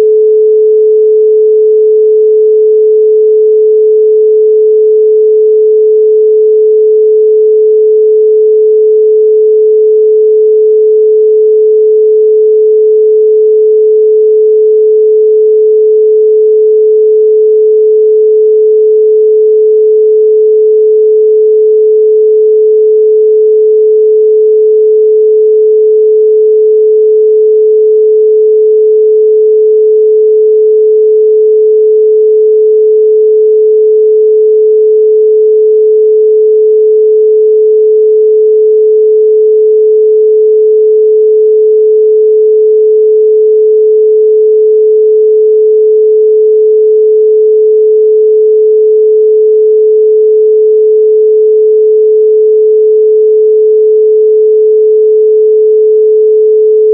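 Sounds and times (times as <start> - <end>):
pure sine tone: 0.0 - 56.9.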